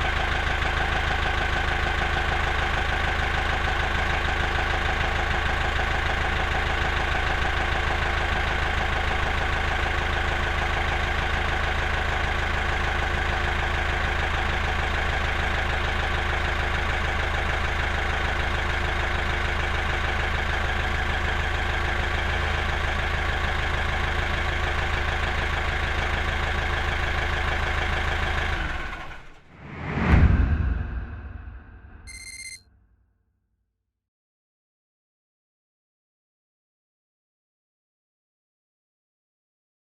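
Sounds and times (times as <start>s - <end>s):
engine-like idling drone: 0.0s - 32.6s.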